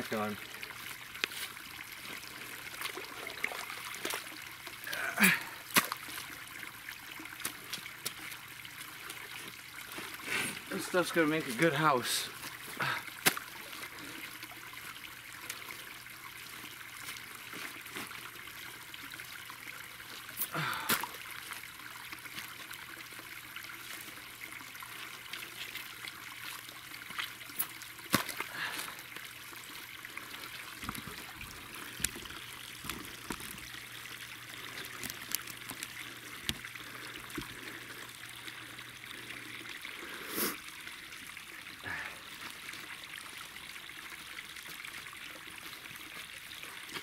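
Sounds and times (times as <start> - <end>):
water trickling: 0.0 - 47.0.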